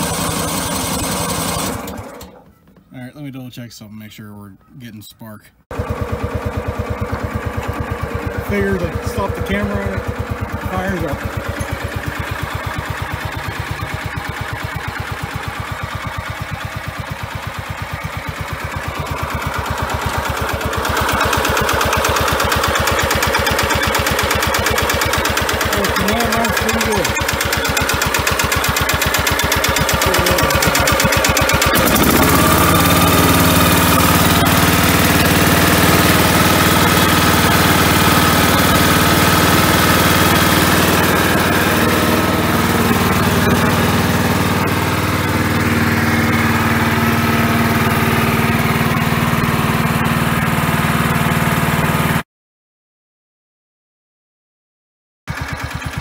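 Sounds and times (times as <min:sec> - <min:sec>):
riding mower engine running: 0:00.0 - 0:02.9, 0:05.7 - 0:52.2, 0:55.3 - 0:56.0.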